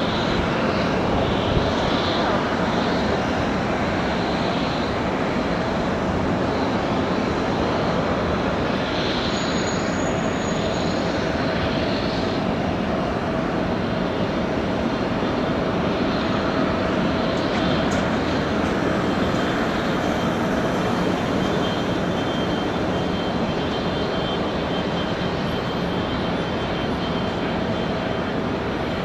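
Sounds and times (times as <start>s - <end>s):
faint jet engine whine: 0.0s - 29.0s
jet engine rumble and hiss: 0.0s - 29.0s.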